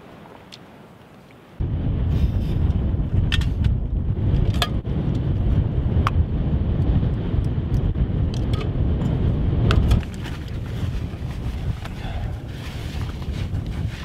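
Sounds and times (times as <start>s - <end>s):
wind buffeting microphone: 1.6s - 14.0s.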